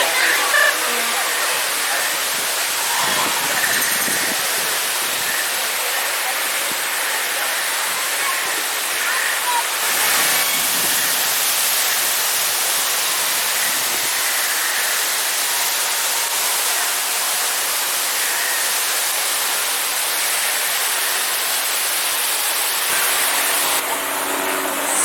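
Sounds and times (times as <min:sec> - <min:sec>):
falling water rushing: 0:00.0 - 0:25.0.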